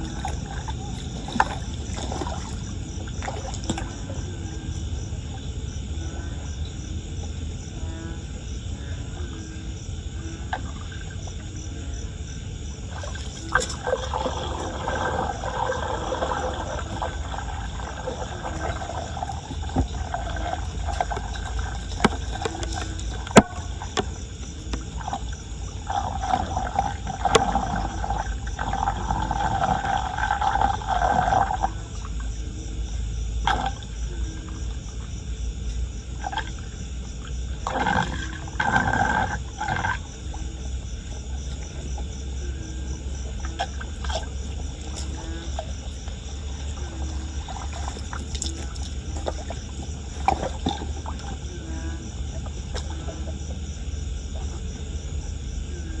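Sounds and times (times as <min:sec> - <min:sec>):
floodwater gurgling into drain: 0:00.0 - 0:06.8, 0:12.8 - 0:32.6, 0:33.4 - 0:35.2, 0:36.2 - 0:56.0.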